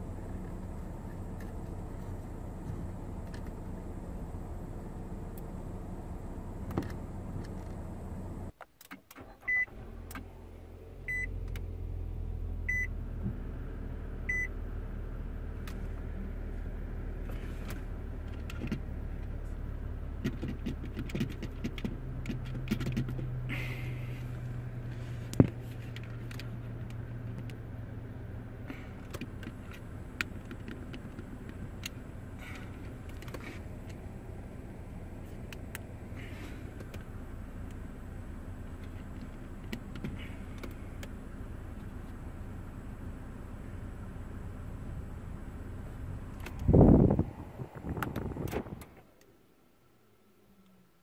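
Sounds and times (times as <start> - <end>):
car cabin hum: 0.0 - 51.0.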